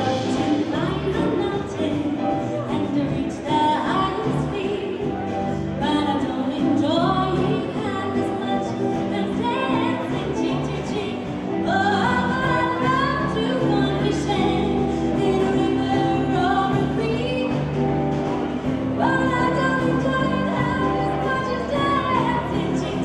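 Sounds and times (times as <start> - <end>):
band accompaniment: 0.0 - 23.0
woman singing: 0.0 - 23.0.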